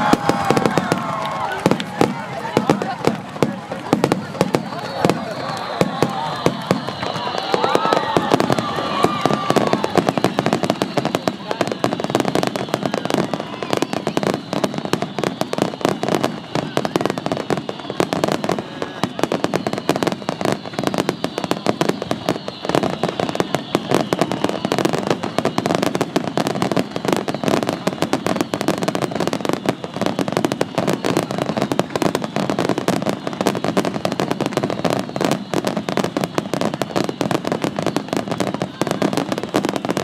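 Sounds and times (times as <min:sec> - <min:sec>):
firework whistles: 0:00.0 - 0:40.0
fireworks bangs and crackling: 0:00.0 - 0:40.0.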